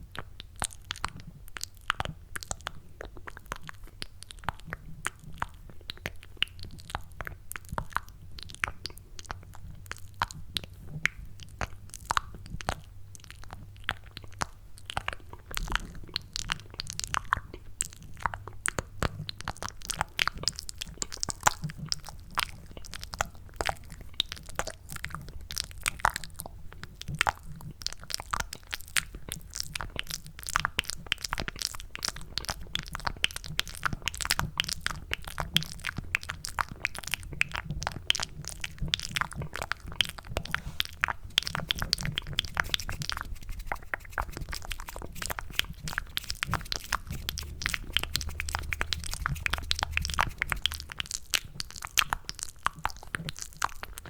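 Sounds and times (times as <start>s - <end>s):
wet mouth clicks and smacks: 0.1s - 54.0s.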